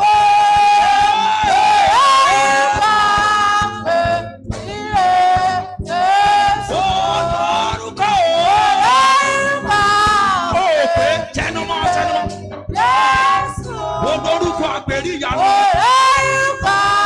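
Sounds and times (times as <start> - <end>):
person singing long notes: 0.0 - 17.0
worship music: 0.0 - 17.0.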